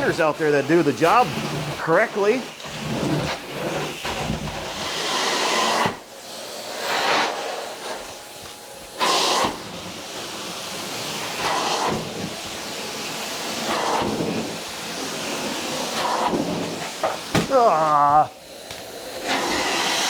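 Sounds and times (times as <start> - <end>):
carpet-cleaning wand hissing: 0.0 - 20.0.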